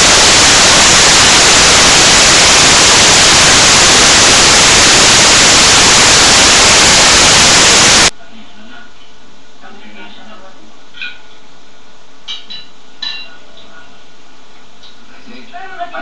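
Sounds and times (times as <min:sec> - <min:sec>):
loud static hiss: 0:00.0 - 0:16.0.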